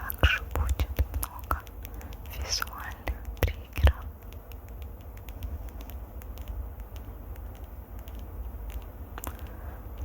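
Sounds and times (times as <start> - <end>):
fingers scratching on microphone: 0.0 - 9.4.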